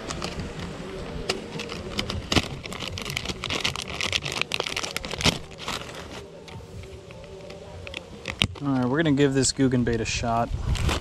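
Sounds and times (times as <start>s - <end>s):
plastic packaging crinkling: 0.0s - 9.3s, 10.1s - 11.0s.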